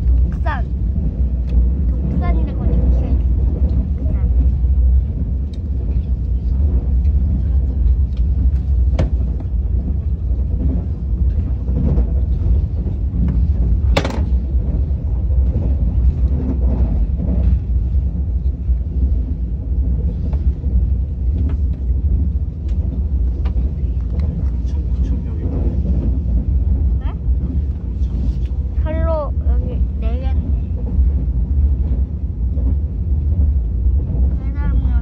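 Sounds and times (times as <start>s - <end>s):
high-speed train rumble: 0.0s - 35.0s.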